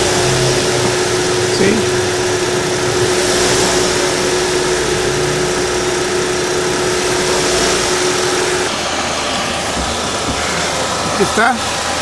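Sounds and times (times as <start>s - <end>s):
car engine idling: 0.0s - 12.0s
steady hum: 0.0s - 12.0s.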